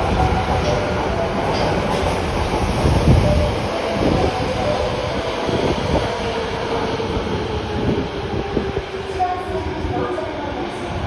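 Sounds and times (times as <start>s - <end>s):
subway train rumbling past: 0.0s - 11.0s.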